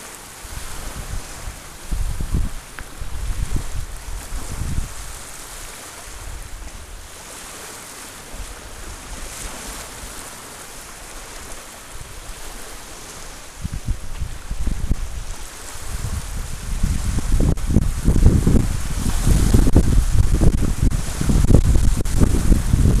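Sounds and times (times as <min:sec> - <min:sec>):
waves lapping on shore: 0:00.0 - 0:23.0
wind buffeting microphone: 0:00.4 - 0:23.0.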